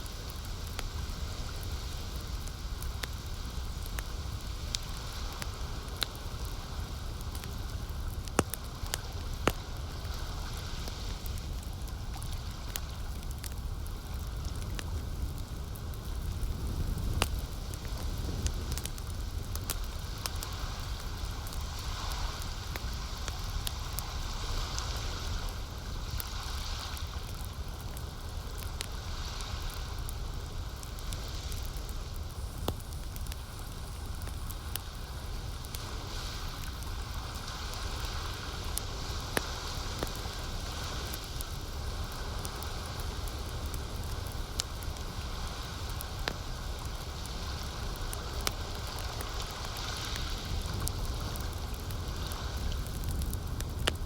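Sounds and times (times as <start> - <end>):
campfire crackling and popping: 0.0 - 54.0
soft hiss: 0.0 - 54.0.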